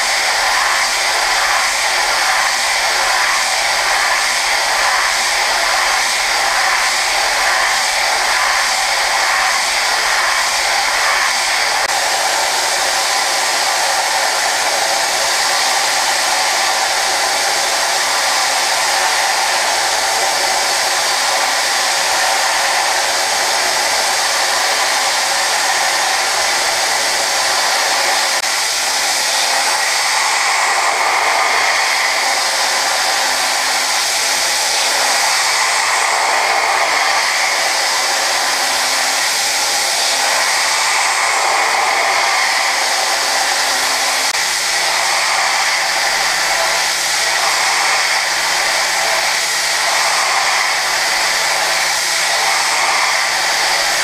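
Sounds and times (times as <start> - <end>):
air blowing at cutter: 0.0 - 54.0
milling spindle running: 0.0 - 54.0.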